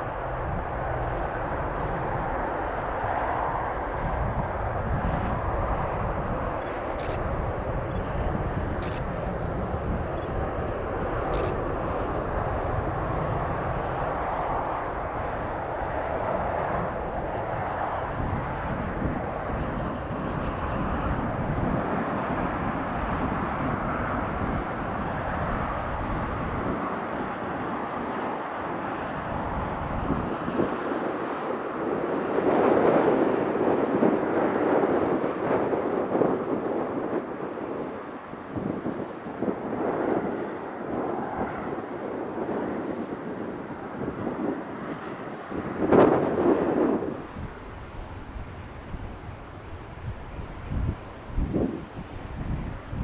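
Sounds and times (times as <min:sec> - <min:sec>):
aircraft engines running: 0:00.0 - 0:53.0.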